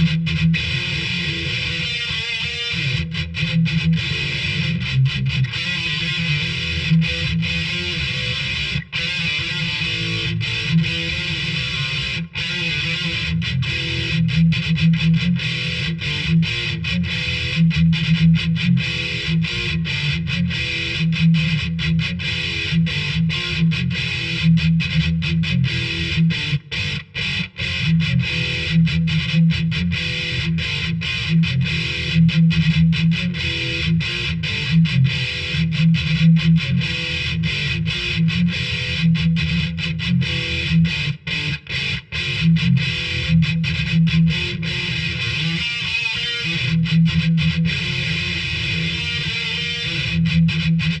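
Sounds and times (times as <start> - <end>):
distorted electric guitar riffs: 0.0 - 51.0.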